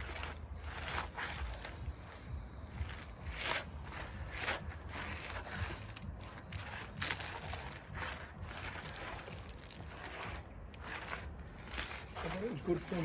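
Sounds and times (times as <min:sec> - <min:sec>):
crinkling matting worked by hand: 0:00.0 - 0:13.0.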